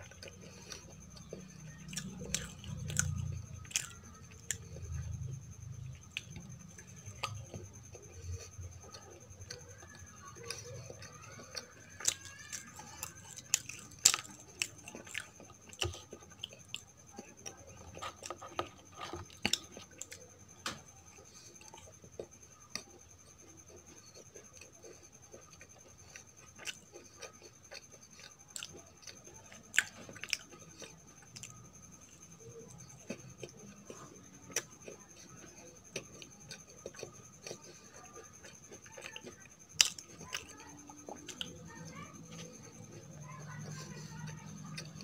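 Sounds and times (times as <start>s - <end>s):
soft wet chewing: 0.0s - 45.0s
crisp clicks and crackles: 5.8s - 45.0s.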